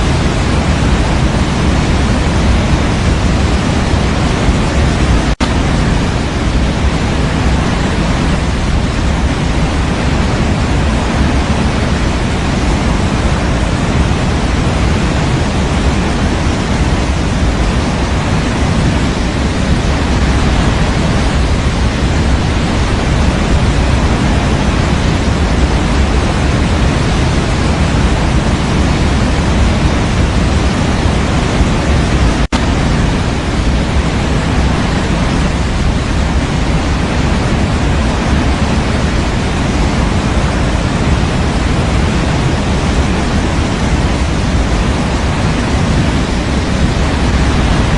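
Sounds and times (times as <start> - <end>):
steady white noise: 0.0 - 47.9.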